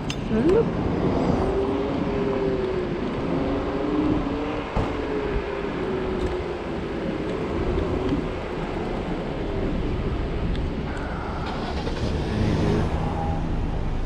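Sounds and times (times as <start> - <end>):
electric scooter hum: 0.0 - 14.0
road rumble: 0.0 - 14.0
wind rushing over microphone: 0.0 - 14.0.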